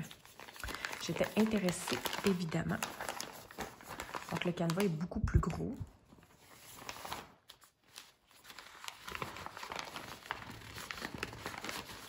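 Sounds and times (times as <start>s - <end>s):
plastic bag crinkling: 0.0s - 5.2s, 5.8s - 12.0s.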